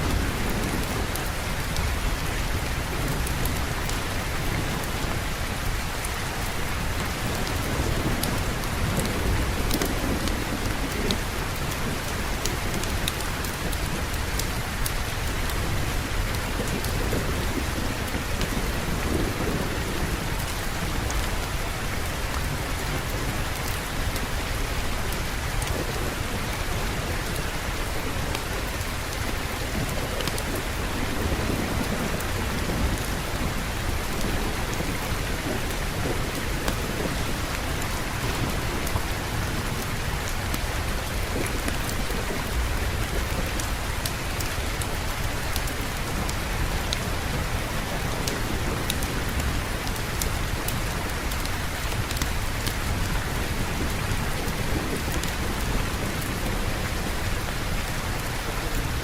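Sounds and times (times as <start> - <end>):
rolling thunder rumbles: 0.0 - 59.0
steady rain falling: 0.0 - 59.0.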